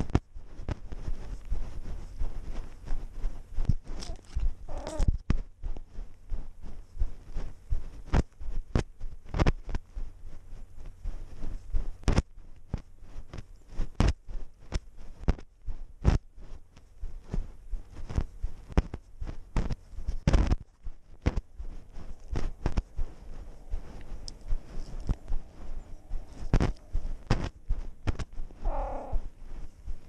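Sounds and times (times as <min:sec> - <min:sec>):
paws crunching over snow and grass: 0:00.0 - 0:30.0.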